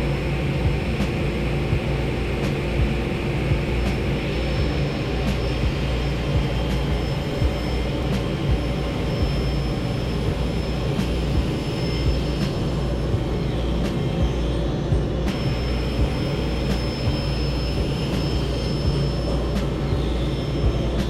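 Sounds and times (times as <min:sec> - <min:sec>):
woodworking machine droning: 0:00.0 - 0:21.0.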